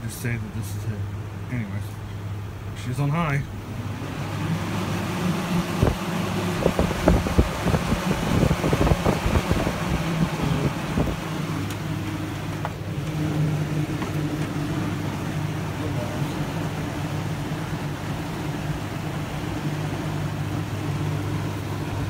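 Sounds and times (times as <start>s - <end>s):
box fan running: 0.0s - 22.0s.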